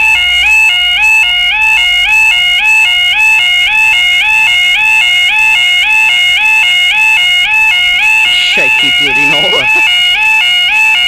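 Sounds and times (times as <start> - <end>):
level crossing alarms warbling: 0.0 - 11.0.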